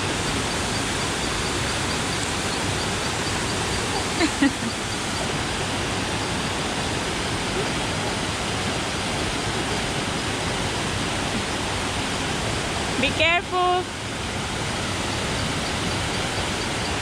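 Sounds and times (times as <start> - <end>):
mountain river rushing: 0.0 - 17.0.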